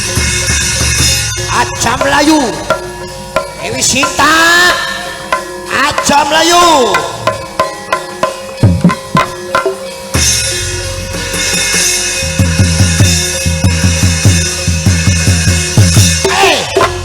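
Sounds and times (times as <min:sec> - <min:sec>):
cymbal crash ringing: 0:00.0 - 0:17.0
drum strokes: 0:00.0 - 0:17.0
fast low drum beats: 0:00.0 - 0:17.0.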